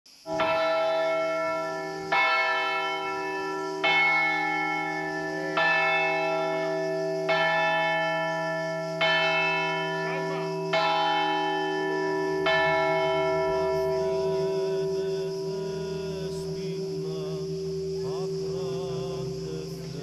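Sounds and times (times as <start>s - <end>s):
church bell tolling: 0.3s - 20.0s.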